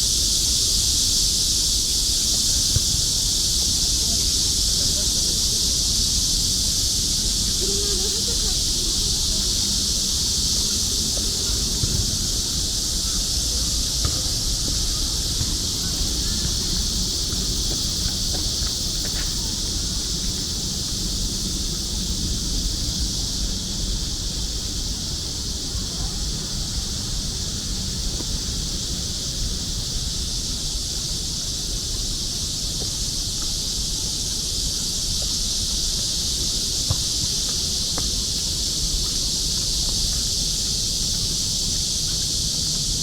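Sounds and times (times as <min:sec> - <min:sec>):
cicadas buzzing: 0:00.0 - 0:43.0.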